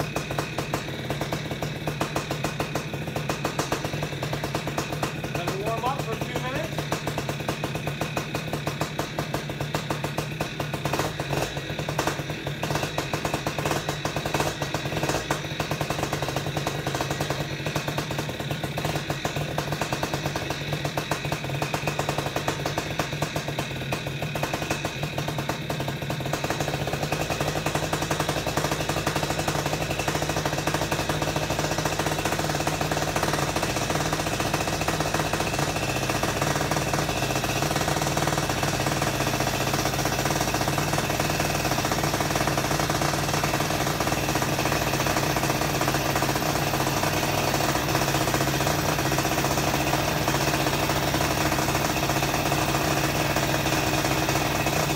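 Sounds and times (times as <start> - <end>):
two-stroke engine running: 0.0 - 54.9.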